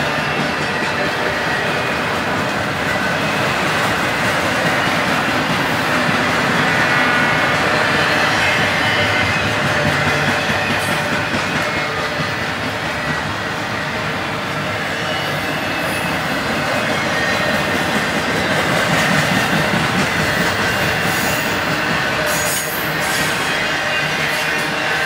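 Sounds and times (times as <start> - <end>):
freight train wheels clattering: 0.0 - 25.0.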